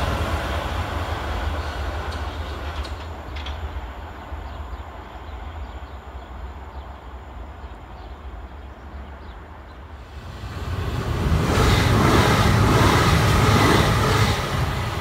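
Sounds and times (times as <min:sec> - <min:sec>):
electric train running past: 0:00.0 - 0:15.0.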